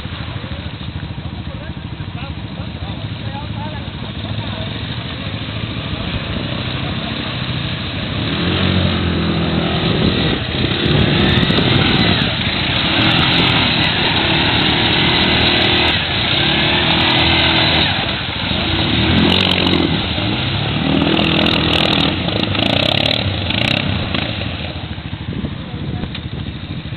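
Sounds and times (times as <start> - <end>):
quad bike engine revving: 0.0 - 26.9
water splashing around tyres: 0.0 - 26.9.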